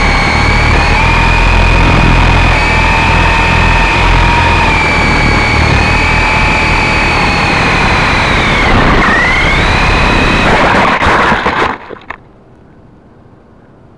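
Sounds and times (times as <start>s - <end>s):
toy helicopter rotors whining: 0.0s - 11.8s.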